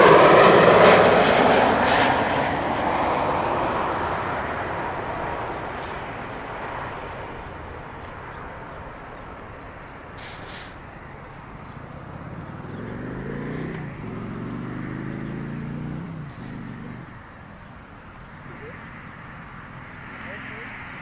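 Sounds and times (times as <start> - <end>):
low droning engine note: 0.0 - 10.2, 10.8 - 21.0
distant jet engines rushing: 0.0 - 21.0.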